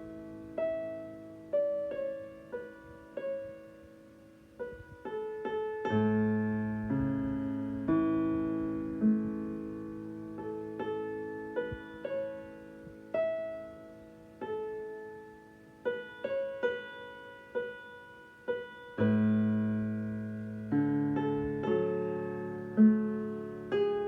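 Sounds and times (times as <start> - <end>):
slow piano improvisation: 0.0 - 24.0.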